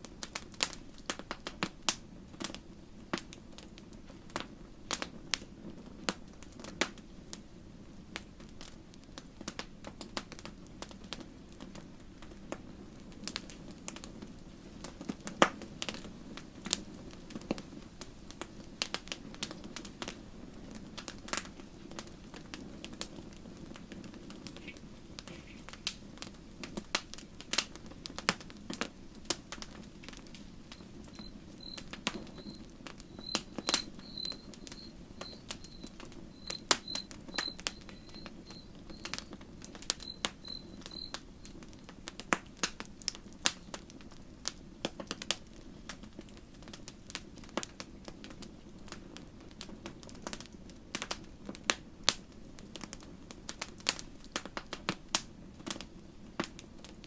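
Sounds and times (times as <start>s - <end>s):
burning wood crackling and popping: 0.0s - 57.0s
low rush of flame: 0.0s - 57.0s.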